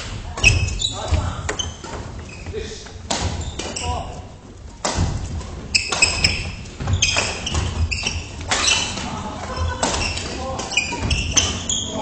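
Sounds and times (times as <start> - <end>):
shoes squeaking on wooden court: 0.2 - 12.0.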